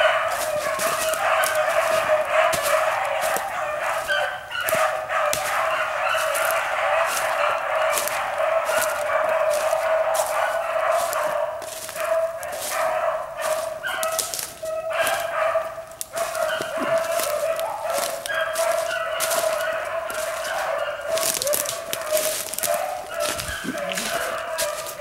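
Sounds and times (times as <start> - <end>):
brush and twigs crackling: 0.0 - 25.0
hounds baying: 0.0 - 25.0.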